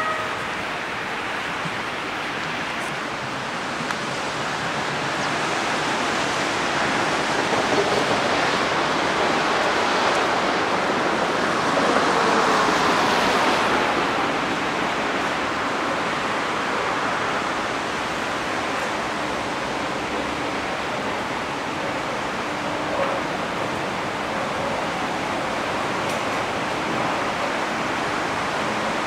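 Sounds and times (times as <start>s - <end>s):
traffic hiss on wet roads: 0.0s - 29.0s.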